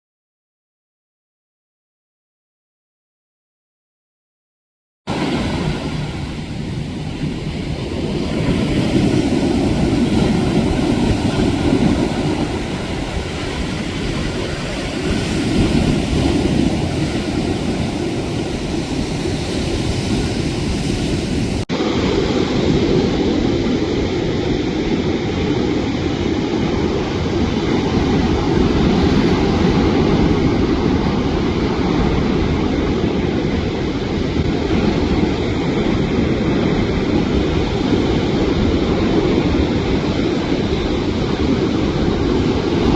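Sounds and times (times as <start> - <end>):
ocean surf rushing: 5.1 - 42.9.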